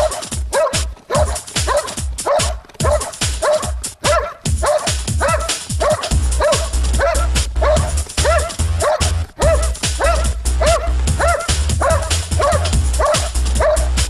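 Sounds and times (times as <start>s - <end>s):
dog barking rhythmically: 0.0s - 14.0s.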